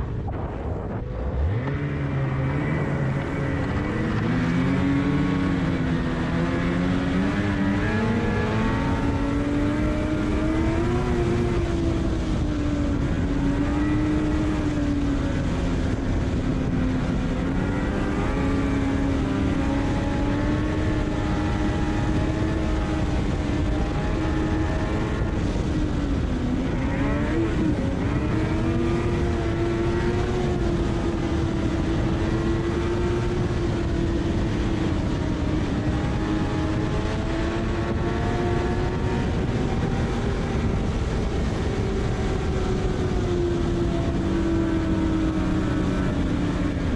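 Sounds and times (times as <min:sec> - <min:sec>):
snowmobile engine accelerating: 0:00.0 - 0:46.9
wind and track noise: 0:00.0 - 0:46.9.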